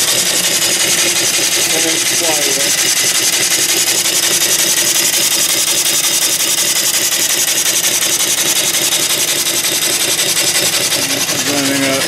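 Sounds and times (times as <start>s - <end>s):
steam engine exhaust hissing: 0.0s - 12.0s.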